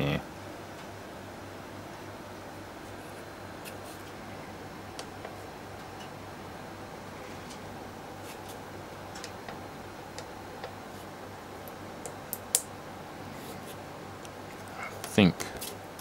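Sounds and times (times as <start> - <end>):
quiet steady hum: 0.0 - 16.0.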